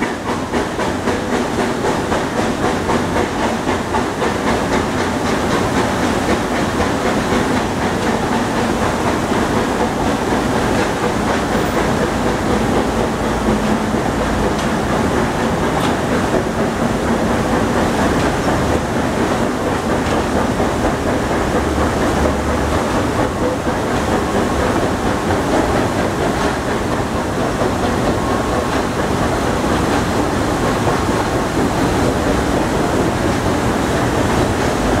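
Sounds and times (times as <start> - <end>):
train wheels rolling on rails: 0.0 - 35.0.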